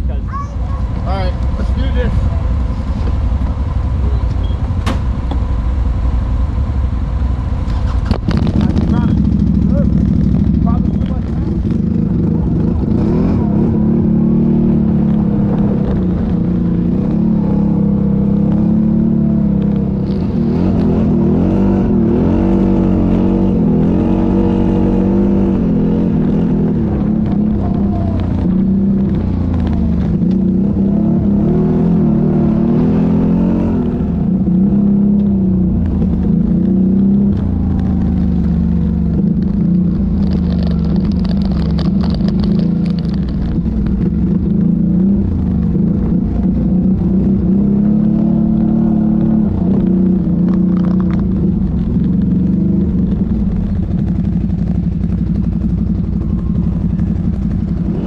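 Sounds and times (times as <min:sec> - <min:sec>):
atv engine revving: 0:07.5 - 0:58.0.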